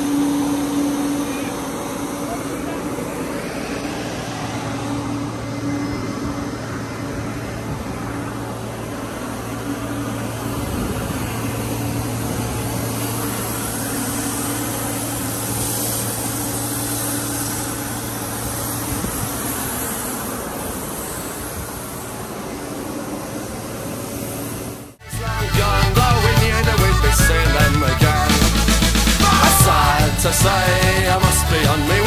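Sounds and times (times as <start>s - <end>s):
compressor running: 0.0s - 32.0s.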